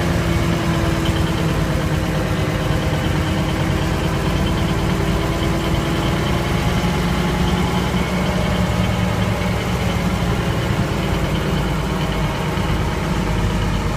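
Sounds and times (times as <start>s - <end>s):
diesel engine droning: 0.0s - 13.9s.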